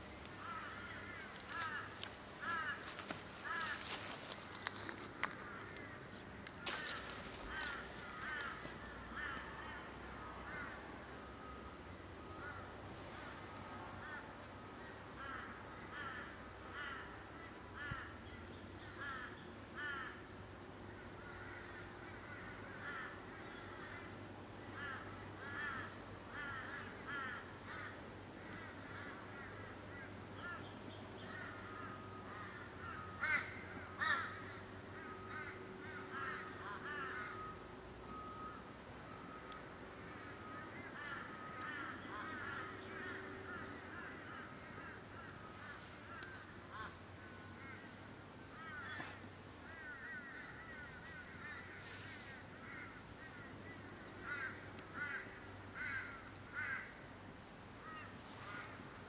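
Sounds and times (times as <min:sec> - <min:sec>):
wild birds calling: 0:00.0 - 0:59.0.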